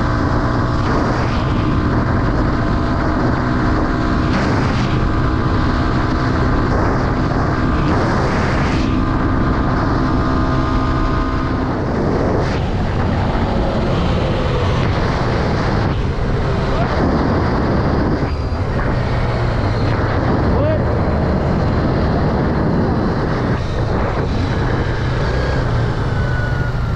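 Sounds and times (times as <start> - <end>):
dirt bike engine: 0.0 - 26.9
wind on microphone: 0.0 - 26.9.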